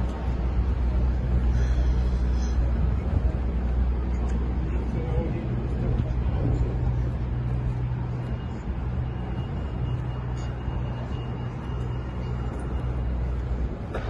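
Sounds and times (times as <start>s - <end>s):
street traffic: 0.0s - 14.0s
vehicle engine idling hum: 0.0s - 14.0s.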